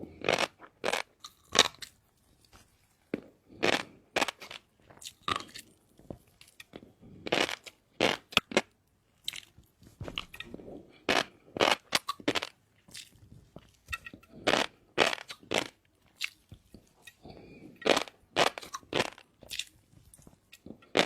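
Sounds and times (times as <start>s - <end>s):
crunchy chewing close up: 0.1s - 9.6s, 11.0s - 21.0s.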